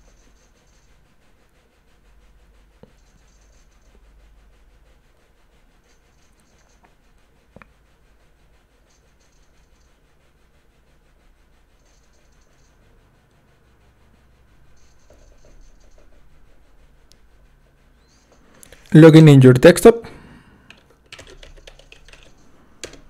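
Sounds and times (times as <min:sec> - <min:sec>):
low hiss and hum: 0:00.0 - 0:23.0.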